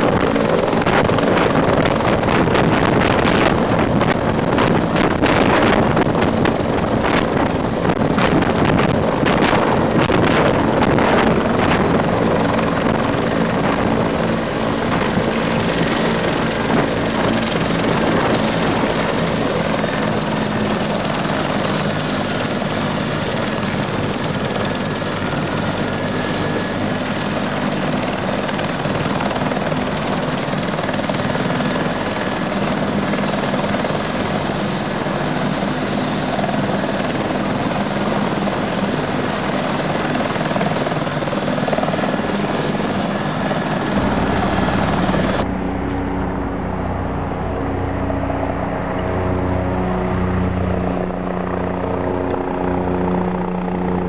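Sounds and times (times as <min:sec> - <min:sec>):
distant helicopter hum: 0:00.0 - 0:54.0
helicopter rotor and turbine rushing: 0:00.0 - 0:54.0.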